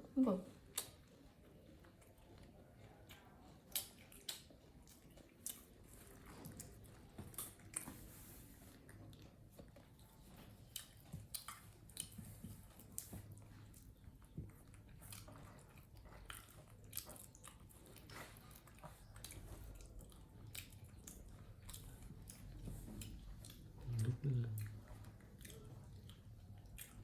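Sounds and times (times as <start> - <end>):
person chewing food: 0.6 - 27.0.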